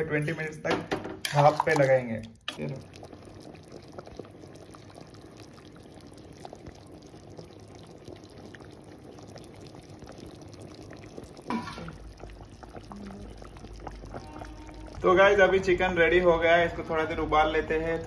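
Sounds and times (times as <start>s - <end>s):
thick gravy bubbling and popping: 0.9s - 18.0s.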